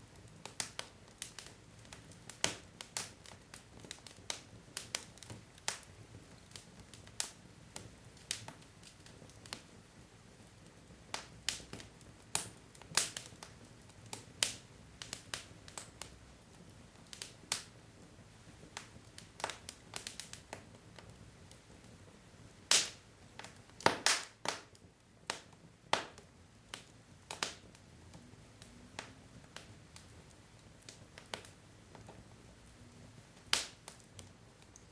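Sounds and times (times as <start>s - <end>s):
logs crackling and popping: 0.1s - 22.0s, 22.6s - 34.9s.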